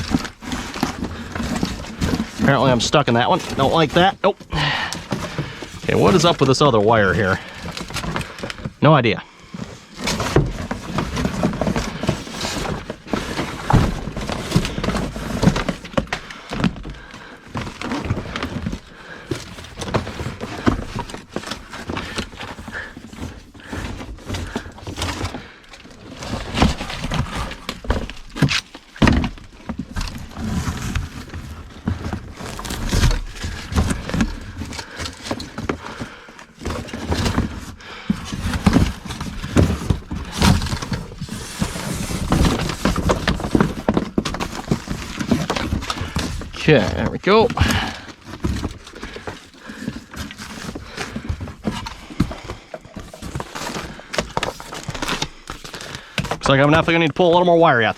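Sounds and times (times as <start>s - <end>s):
electrical cable scraping and rustling: 0.0s - 57.9s.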